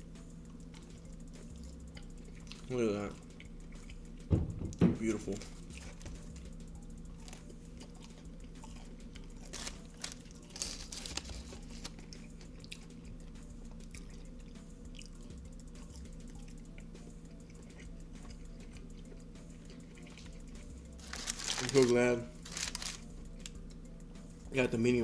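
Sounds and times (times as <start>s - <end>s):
steady low hum: 0.0s - 25.0s
chewing chicken wings: 0.7s - 4.2s, 5.4s - 23.5s.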